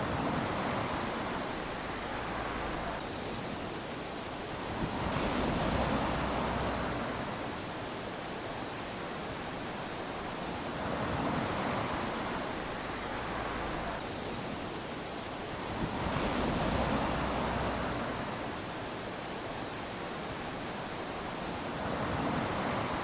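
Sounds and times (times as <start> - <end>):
small waves lapping on sand: 0.0 - 23.0.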